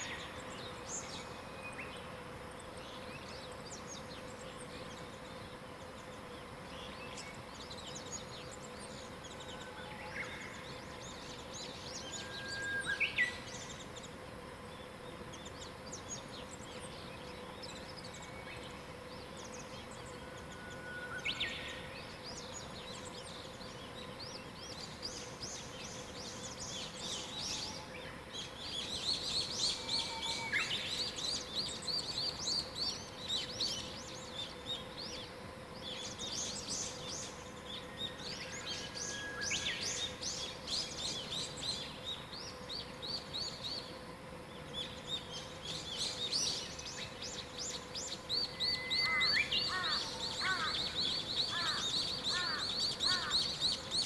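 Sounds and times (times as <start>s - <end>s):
birds chirping and trilling: 0.0s - 54.0s
faint steady hum: 0.0s - 54.0s.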